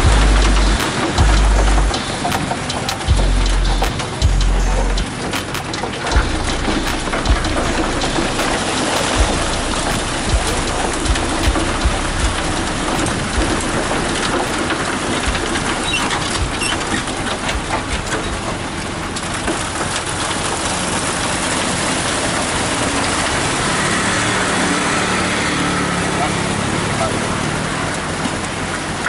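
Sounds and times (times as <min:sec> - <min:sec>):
diesel engine running: 0:00.0 - 0:28.0
wet concrete rushing down chute: 0:05.0 - 0:29.0.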